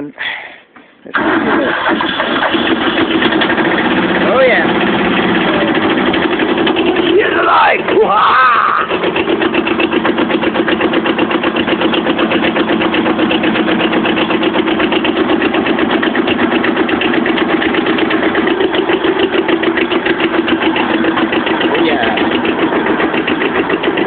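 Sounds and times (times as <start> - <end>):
diesel tractor engine clattering: 0.7 - 24.0.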